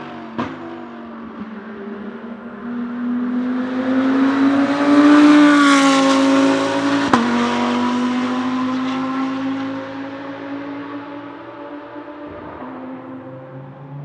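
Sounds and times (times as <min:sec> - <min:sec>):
race car engine accelerating past: 0:02.5 - 0:14.0.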